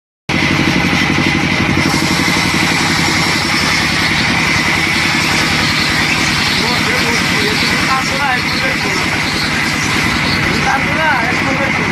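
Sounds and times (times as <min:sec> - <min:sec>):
band saw cutting log: 0:00.3 - 0:11.6.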